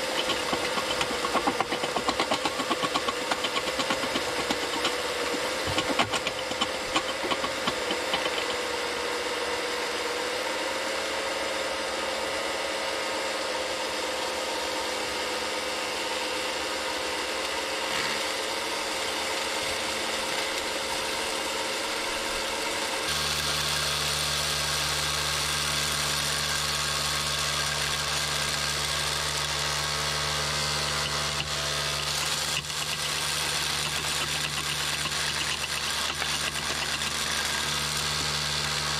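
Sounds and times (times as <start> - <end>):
electric pump and motors whining: 0.0 - 38.9.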